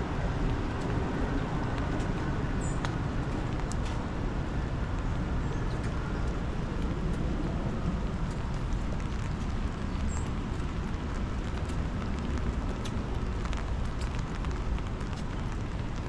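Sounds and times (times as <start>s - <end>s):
low street rumble: 0.0s - 16.0s
light ticks: 0.4s - 4.0s, 5.6s - 16.0s.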